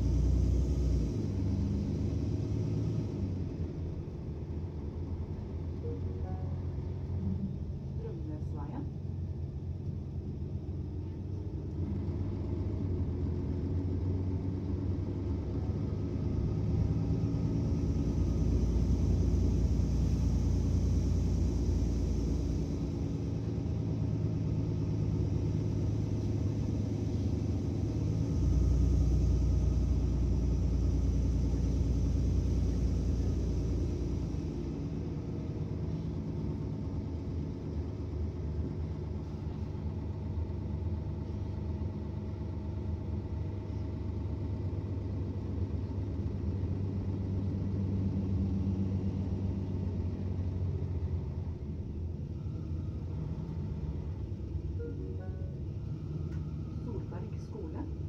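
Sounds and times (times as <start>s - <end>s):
bus engine rumbling: 0.0s - 58.0s.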